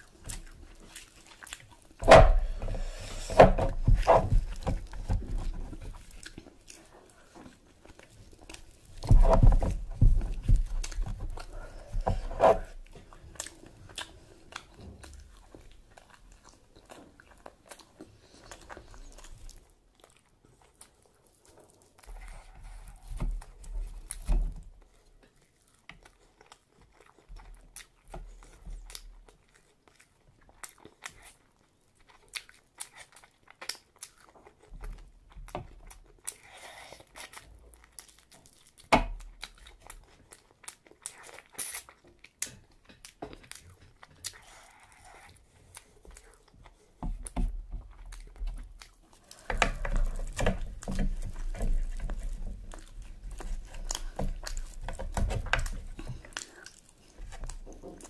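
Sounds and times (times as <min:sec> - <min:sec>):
person chewing and biting: 0:00.0 - 0:58.0.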